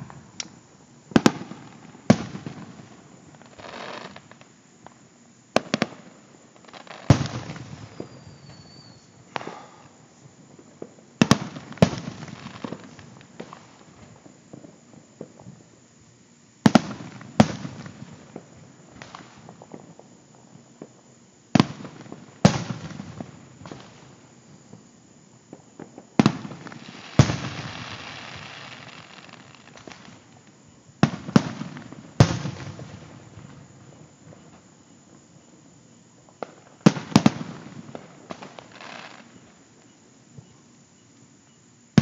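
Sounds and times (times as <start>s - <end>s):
distant fireworks booms: 0.0s - 15.7s, 16.6s - 40.6s
fireworks hiss: 0.0s - 15.7s, 16.6s - 34.7s, 36.2s - 40.6s.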